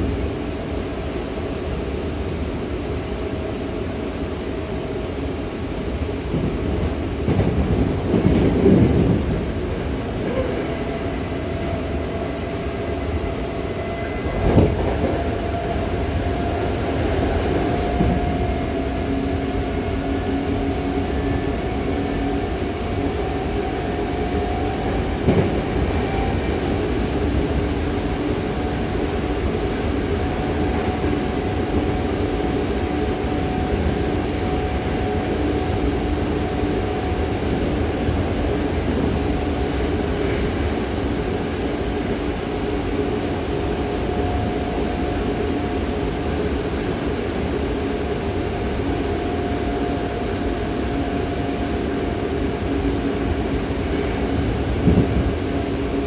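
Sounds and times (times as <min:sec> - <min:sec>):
train hum: 0:00.0 - 0:56.0
train wheels rumbling on rail: 0:00.0 - 0:56.0.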